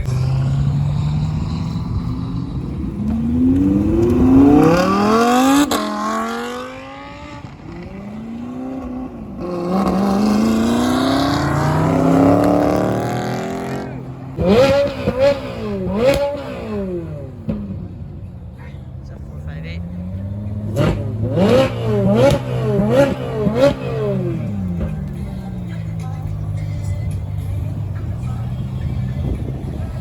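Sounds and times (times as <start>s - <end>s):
sports car engine accelerating: 0.0s - 30.0s.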